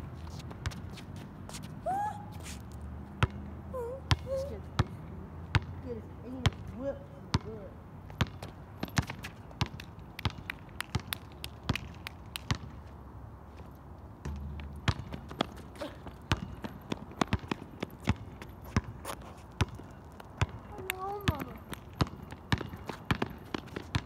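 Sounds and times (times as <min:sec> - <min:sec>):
basketball bouncing on asphalt: 0:00.3 - 0:01.6, 0:03.0 - 0:12.9, 0:14.2 - 0:24.0.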